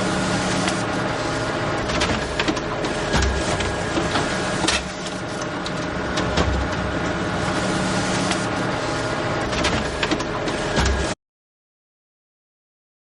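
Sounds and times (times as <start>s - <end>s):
photocopier whirring: 0.0s - 11.2s.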